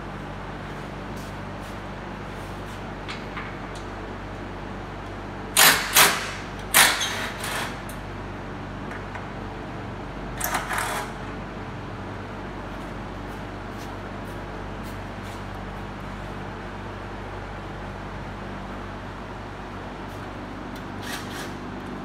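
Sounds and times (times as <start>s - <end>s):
workshop hum: 0.0s - 22.0s.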